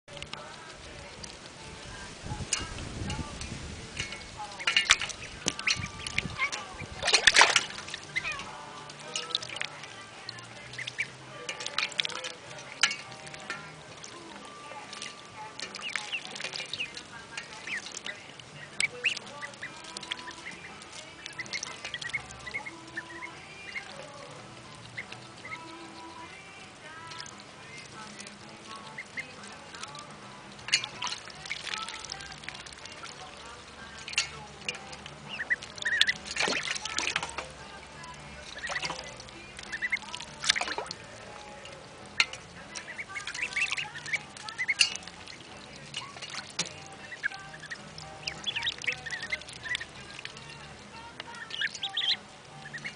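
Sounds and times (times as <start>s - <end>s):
ducklings peeping: 0.1s - 52.9s
small water splashes: 0.1s - 52.9s.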